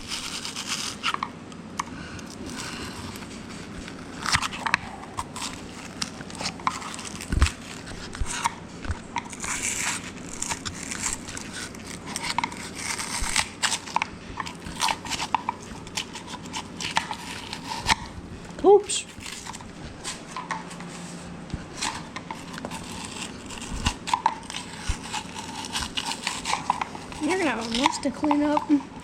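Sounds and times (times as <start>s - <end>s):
screwdriver crunching styrofoam: 0.0s - 1.3s, 2.3s - 18.1s, 21.8s - 28.9s.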